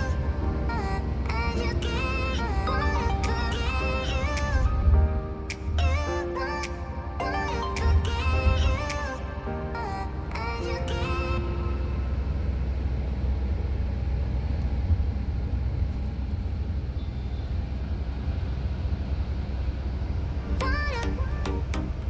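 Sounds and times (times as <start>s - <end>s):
vehicle interior road and engine rumble: 0.0s - 22.0s.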